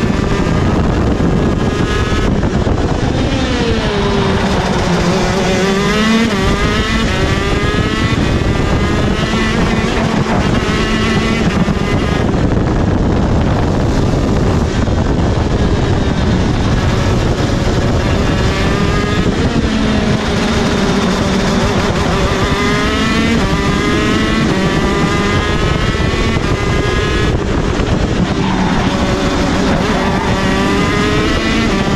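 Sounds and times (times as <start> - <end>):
two-stroke kart engine revving: 0.0 - 31.9.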